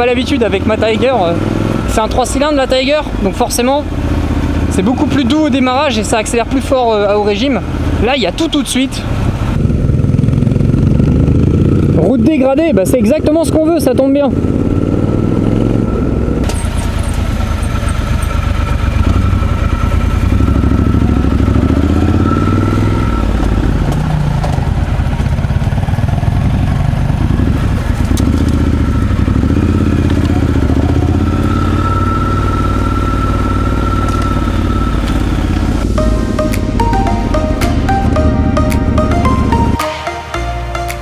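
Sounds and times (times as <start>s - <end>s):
motorcycle engine revving: 0.0s - 39.8s.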